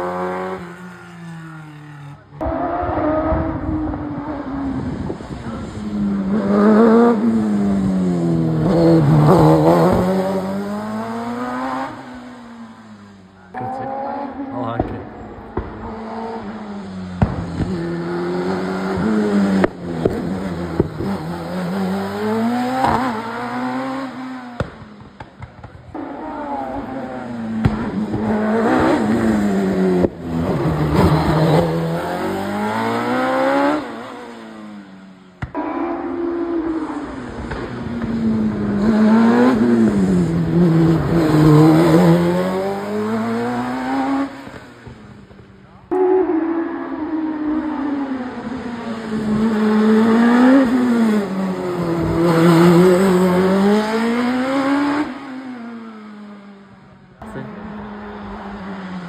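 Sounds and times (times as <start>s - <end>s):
racing car engine at high revs: 0.0s - 59.0s.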